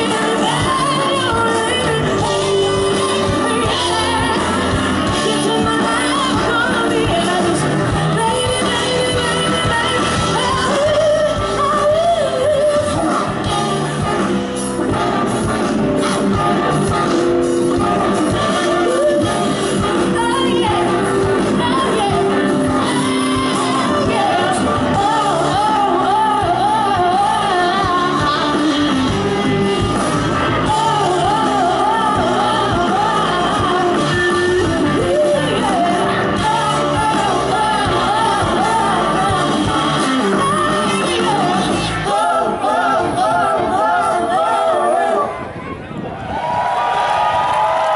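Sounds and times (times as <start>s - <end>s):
woman singing with vibrato: 0.0s - 45.3s
live band playing: 0.0s - 46.1s.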